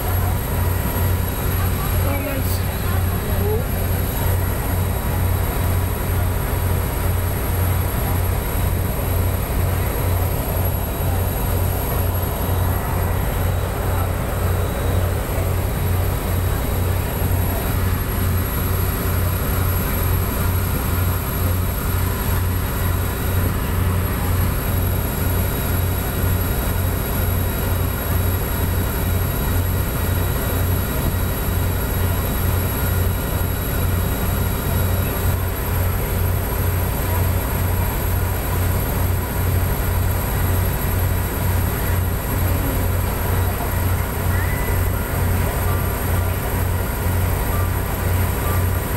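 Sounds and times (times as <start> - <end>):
boat engine throbbing: 0.0 - 48.9
water rushing along hull: 0.0 - 48.9.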